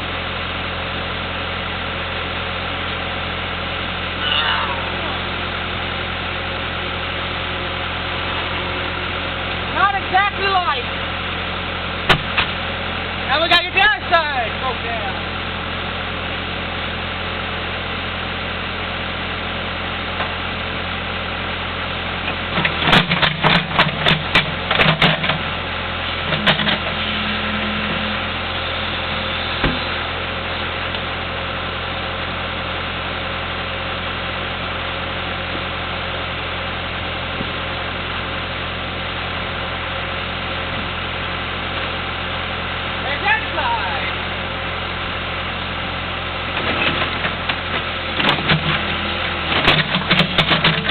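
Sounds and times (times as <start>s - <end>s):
engine idling: 0.0s - 50.9s.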